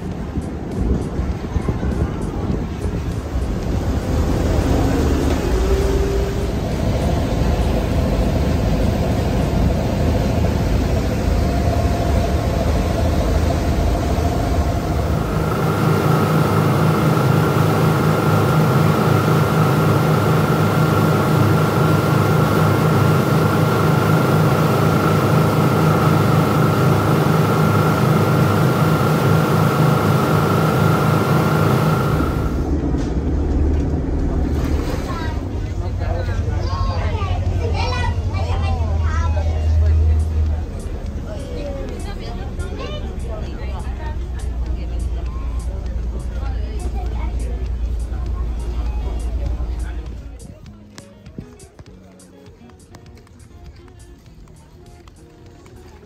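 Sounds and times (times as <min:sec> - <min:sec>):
high whine: 0:00.0 - 0:46.8
boat engine humming: 0:00.0 - 0:56.0.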